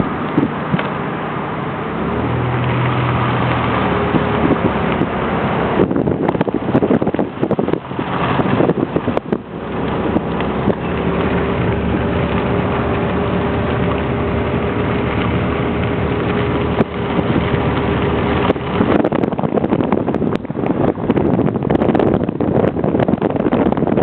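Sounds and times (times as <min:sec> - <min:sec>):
engine running steadily: 0:00.0 - 0:24.0
wind buffeting microphone: 0:00.0 - 0:24.0.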